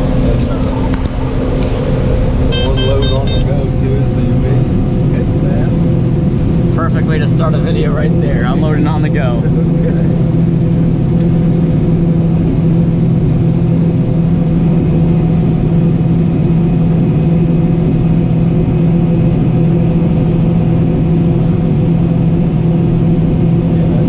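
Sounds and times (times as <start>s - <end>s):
combine harvester drone: 0.0s - 24.0s.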